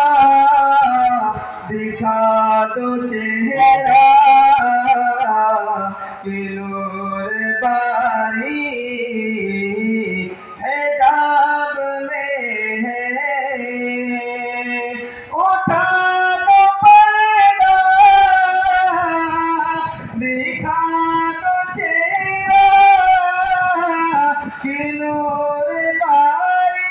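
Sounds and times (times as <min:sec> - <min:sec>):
man singing into a microphone: 0:00.0 - 0:26.9.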